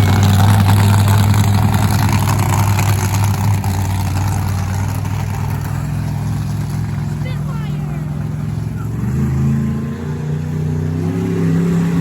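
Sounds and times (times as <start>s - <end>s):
truck engine running loud: 0.0s - 12.0s.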